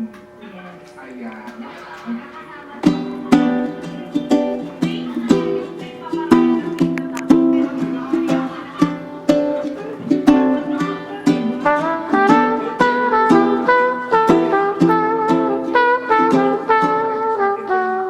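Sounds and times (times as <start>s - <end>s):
acoustic plucked string music: 2.8s - 18.0s.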